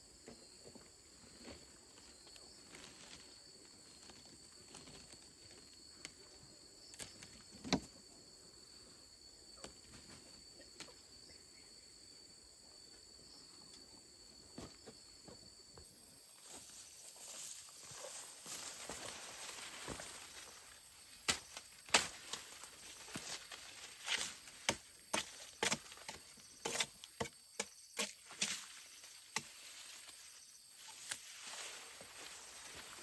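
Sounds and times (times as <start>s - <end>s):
insect drone: 0.0s - 33.0s.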